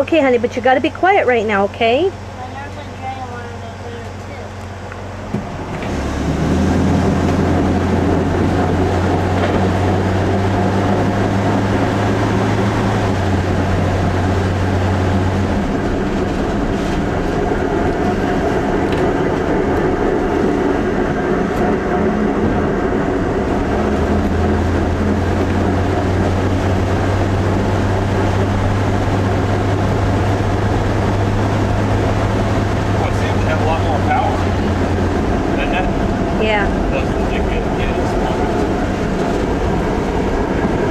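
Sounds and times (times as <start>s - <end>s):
motorhome engine under load: 0.0s - 40.9s
road rumble: 0.0s - 40.9s
brake drum grinding: 5.2s - 40.9s.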